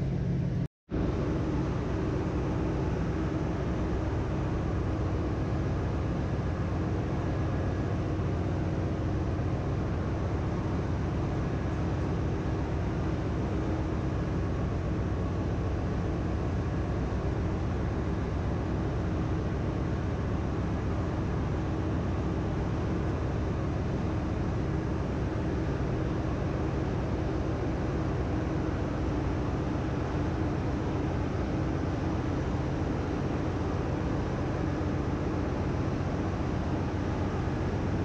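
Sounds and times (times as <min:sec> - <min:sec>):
engine room machinery hum: 0:00.0 - 0:38.0.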